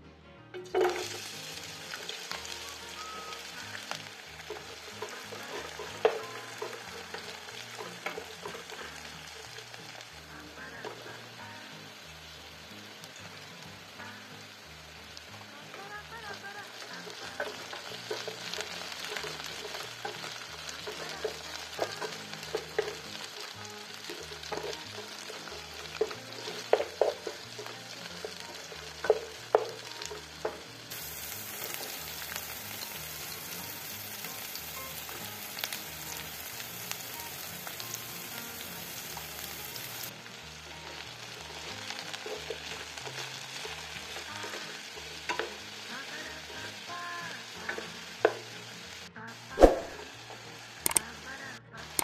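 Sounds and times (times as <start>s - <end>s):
vegetables sizzling in a pan: 0.6s - 52.0s.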